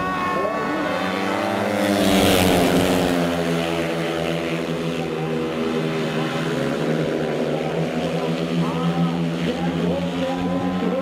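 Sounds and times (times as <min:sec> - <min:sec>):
motorcycle engines running: 0:00.0 - 0:11.0
motorcycle passing by: 0:00.0 - 0:11.0.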